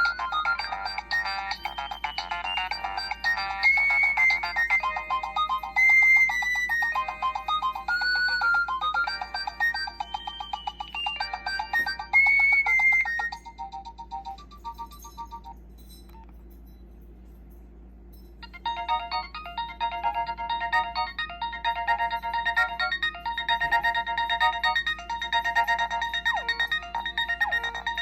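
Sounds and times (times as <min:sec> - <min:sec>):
electronic ringtone melody: 0:00.0 - 0:15.6, 0:18.4 - 0:28.0.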